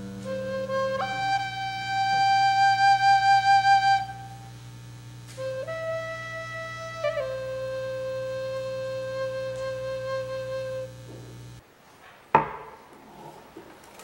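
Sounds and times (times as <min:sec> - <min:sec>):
recorder playing slow melody: 0:00.0 - 0:11.6.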